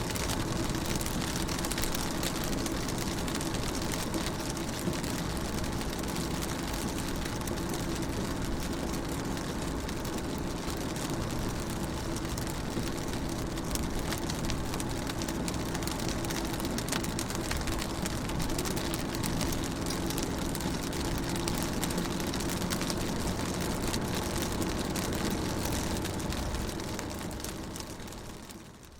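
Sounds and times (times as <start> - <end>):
road noise: 0.0 - 28.7
rain pattering on car window: 0.0 - 28.9.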